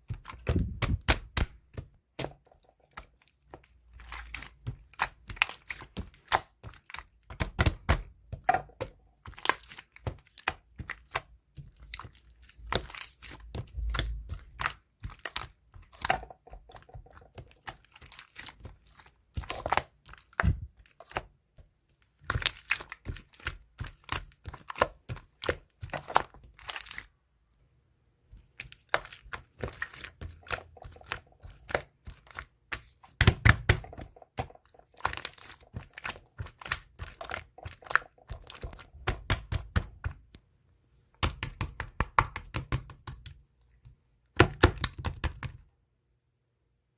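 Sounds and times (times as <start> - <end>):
slime squished by hand: 0.0 - 21.4, 22.0 - 27.2, 28.3 - 40.3.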